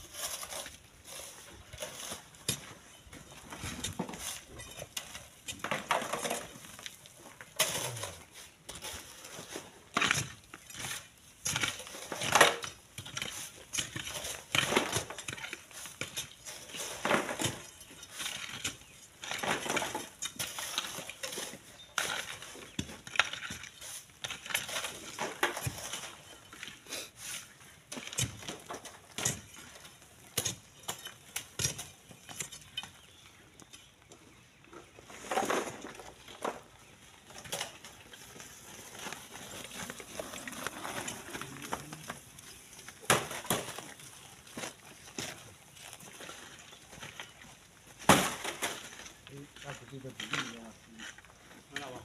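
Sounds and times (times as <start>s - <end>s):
metal tools scraping gravel: 0.0s - 52.0s.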